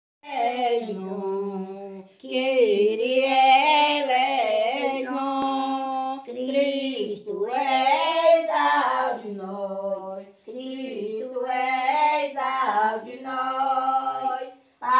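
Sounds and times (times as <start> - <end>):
woman singing a hymn solo: 0.2 - 14.9.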